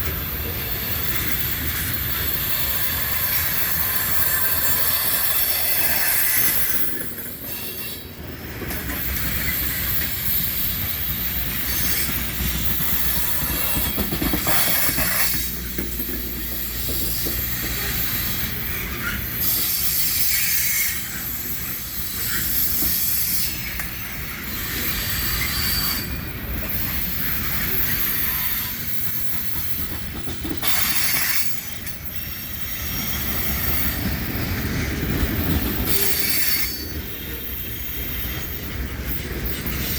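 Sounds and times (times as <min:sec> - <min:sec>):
freight train cars rumbling: 0:00.0 - 0:39.9
train wheel squeal: 0:00.0 - 0:39.9.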